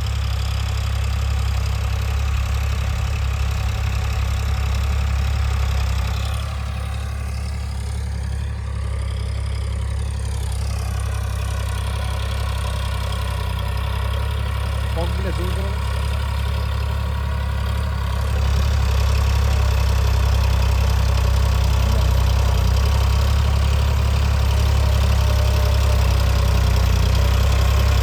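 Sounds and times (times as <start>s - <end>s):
tractor diesel engine idling: 0.0s - 28.0s.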